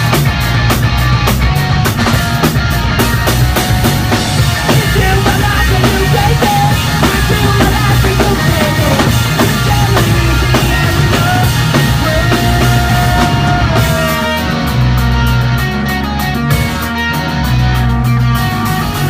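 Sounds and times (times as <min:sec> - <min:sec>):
bass guitar: 0:00.0 - 0:19.0
distorted electric guitars: 0:00.0 - 0:19.0
drum kit: 0:00.0 - 0:19.0.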